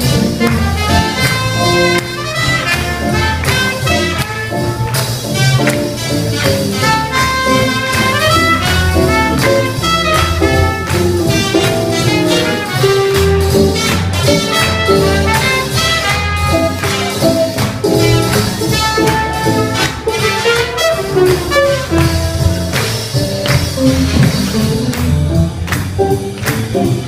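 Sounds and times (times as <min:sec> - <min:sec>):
swing jazz band: 0:00.0 - 0:27.0.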